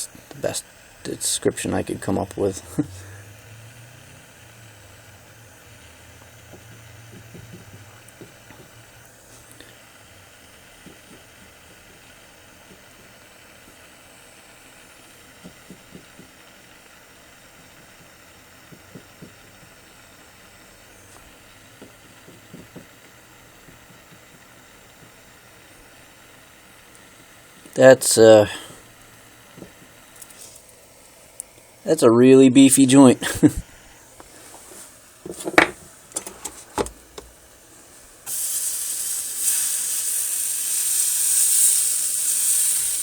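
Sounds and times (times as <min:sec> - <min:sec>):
soldering hiss: 0:00.0 - 0:43.0.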